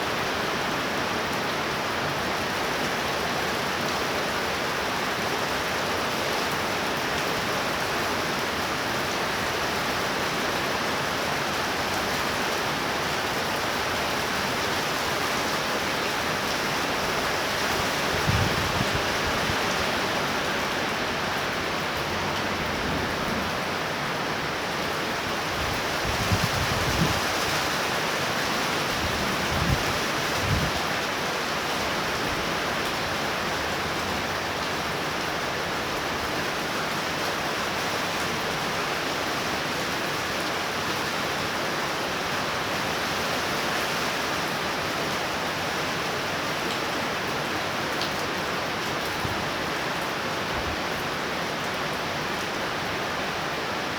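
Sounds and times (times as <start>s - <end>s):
torrential rain pouring: 0.0s - 53.9s.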